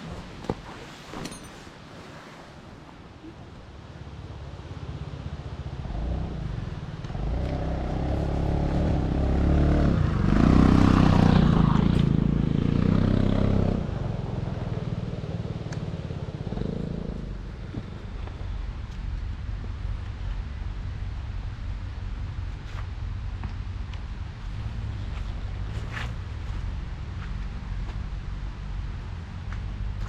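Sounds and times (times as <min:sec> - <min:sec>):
vehicle engine running: 0:04.5 - 0:30.0.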